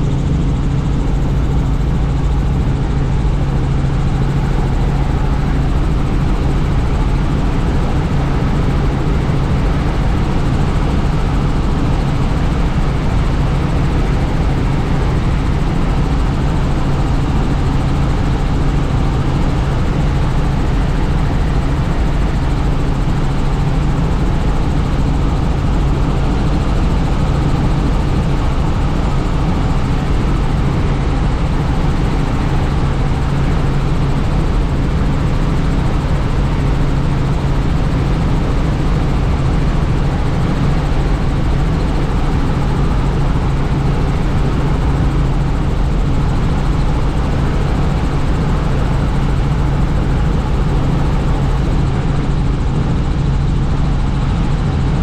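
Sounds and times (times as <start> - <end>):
constant rushing noise: 0.0 - 55.0
helicopter rotor and engine hum: 0.0 - 55.0.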